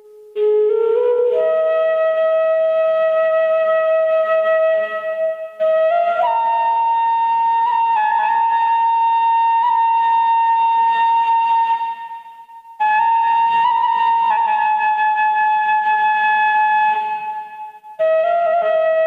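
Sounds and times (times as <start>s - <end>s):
bamboo flute long notes: 0.0s - 19.0s.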